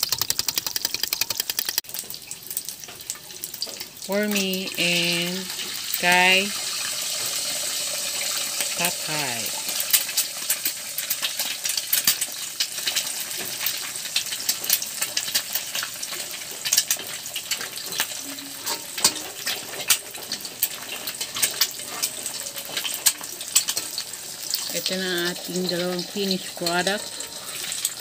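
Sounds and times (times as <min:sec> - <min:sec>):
egg sizzling in hot oil: 0:00.0 - 0:28.0.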